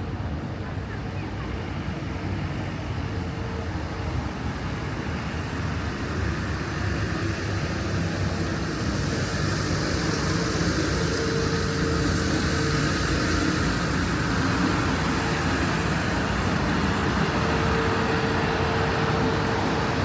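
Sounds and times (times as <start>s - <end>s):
hum of passing cars: 0.0s - 20.0s.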